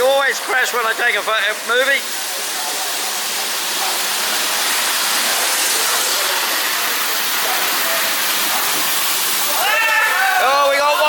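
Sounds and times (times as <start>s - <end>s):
model trains rushing around track: 0.0s - 11.0s.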